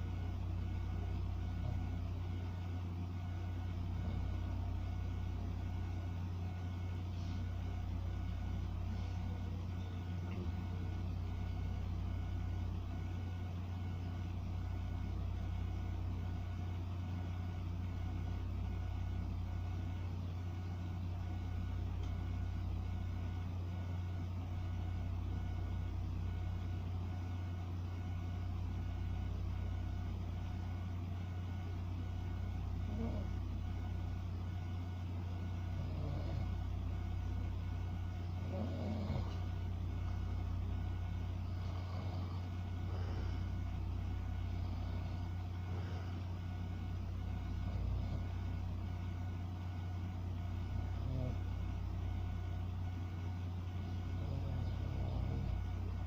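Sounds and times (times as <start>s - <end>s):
low droning hum: 0.0s - 56.0s.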